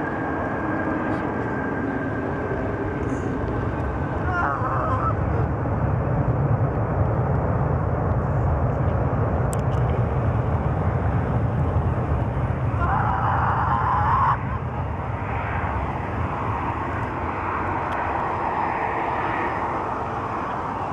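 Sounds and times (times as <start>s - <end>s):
high engine whine: 0.0s - 20.9s
jet engines rumbling: 0.0s - 20.9s.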